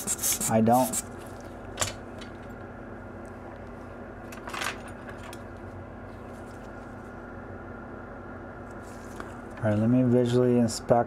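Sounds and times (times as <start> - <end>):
low hum of workbench equipment: 0.0 - 11.0.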